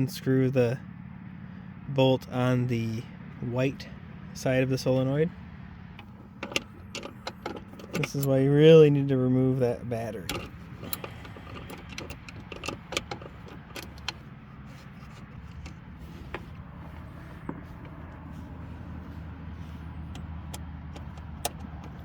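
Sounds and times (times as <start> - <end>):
steady low rumble: 0.5 - 22.0.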